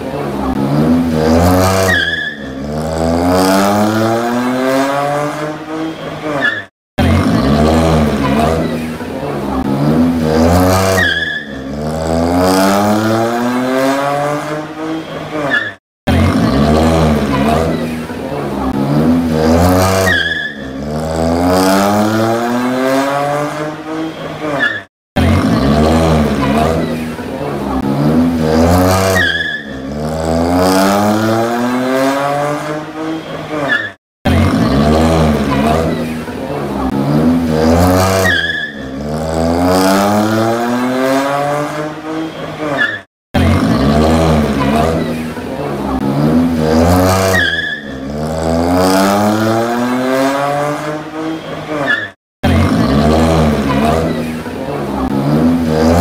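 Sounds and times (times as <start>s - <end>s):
car engine accelerating hard: 0.0s - 6.4s, 7.0s - 15.5s, 16.1s - 24.6s, 25.2s - 33.7s, 34.3s - 42.8s, 43.4s - 56.0s.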